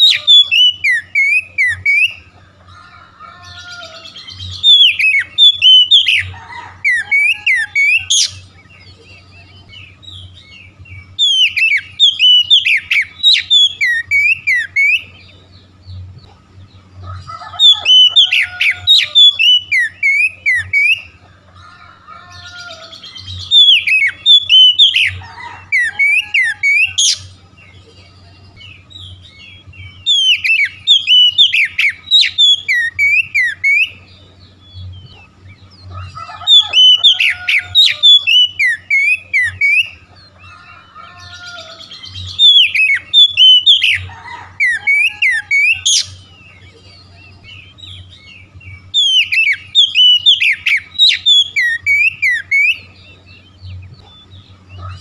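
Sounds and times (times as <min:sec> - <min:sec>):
bird singing whistles and chirps: 0:00.0 - 0:02.3, 0:03.4 - 0:16.0, 0:17.5 - 0:21.2, 0:22.3 - 0:55.0.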